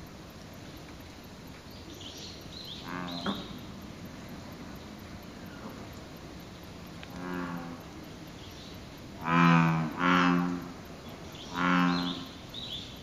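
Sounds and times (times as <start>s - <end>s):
bullfrogs calling: 1.7s - 13.0s.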